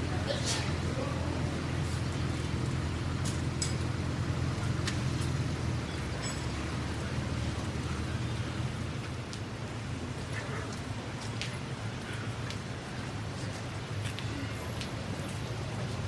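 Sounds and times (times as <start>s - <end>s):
low traffic rumble: 0.0s - 16.0s.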